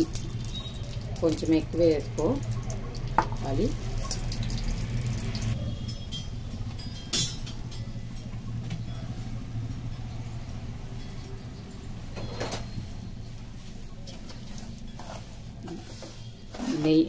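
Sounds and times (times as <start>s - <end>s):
low kitchen hum: 0.0s - 17.0s.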